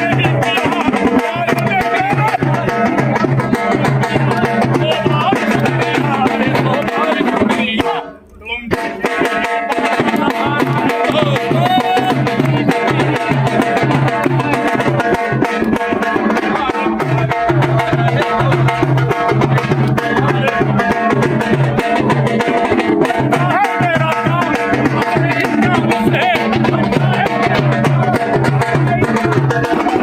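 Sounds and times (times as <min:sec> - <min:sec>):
hand drum beat: 0:00.0 - 0:30.0.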